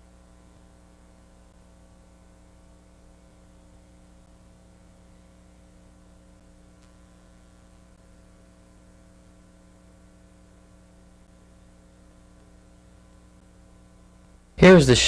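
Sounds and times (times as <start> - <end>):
faint electrical mains hum: 0.0 - 15.0.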